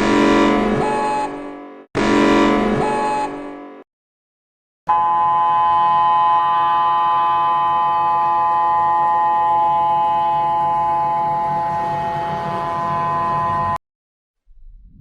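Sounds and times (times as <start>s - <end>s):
two-tone alarm signal: 0.0s - 3.8s, 4.9s - 13.8s.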